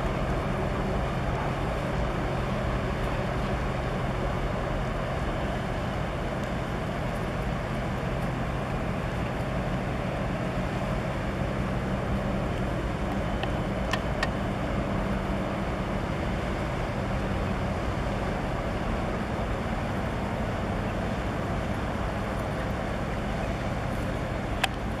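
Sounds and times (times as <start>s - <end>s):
boat diesel engine humming: 0.0s - 25.0s
harbour noise: 0.0s - 25.0s.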